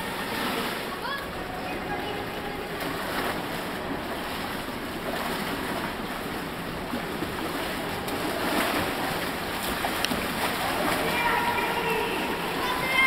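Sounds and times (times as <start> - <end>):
indoor pool noise: 0.0 - 13.0
water splashing and sloshing: 0.0 - 13.0.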